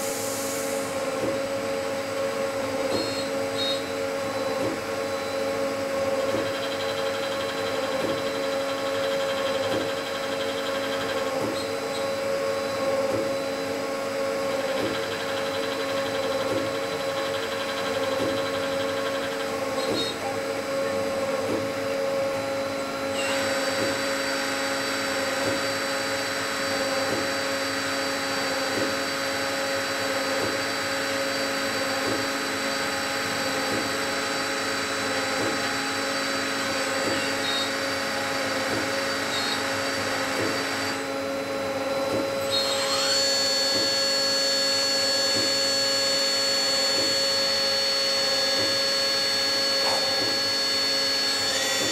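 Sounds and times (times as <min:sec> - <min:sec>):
lathe spindle whine: 0:00.0 - 0:51.9.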